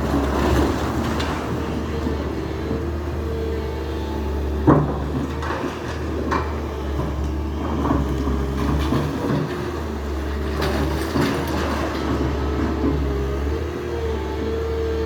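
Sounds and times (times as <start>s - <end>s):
demolition machinery engine hum: 0.0s - 15.0s.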